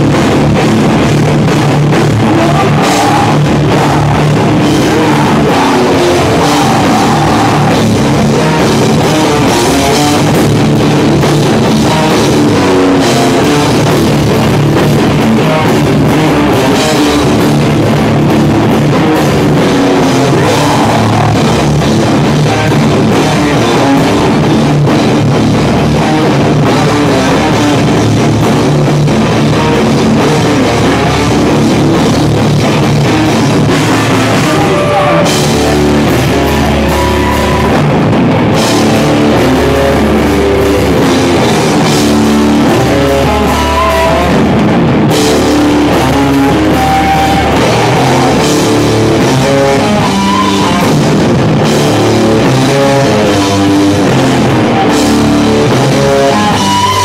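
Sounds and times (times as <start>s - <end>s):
bass guitar: 0.0s - 57.0s
distorted electric guitar: 0.0s - 57.0s
drum kit: 0.0s - 57.0s.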